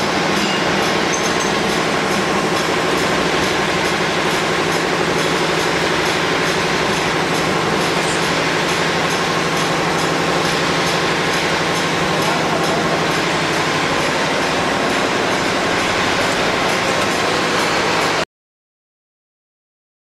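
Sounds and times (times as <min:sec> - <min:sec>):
machine rumbling and rattling: 0:00.0 - 0:18.2.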